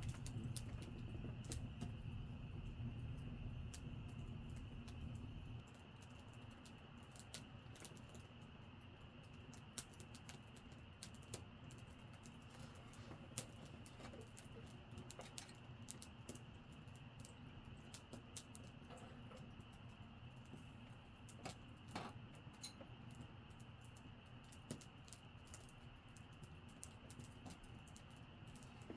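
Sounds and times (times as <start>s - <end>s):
campfire crackling and popping: 0.0s - 28.9s.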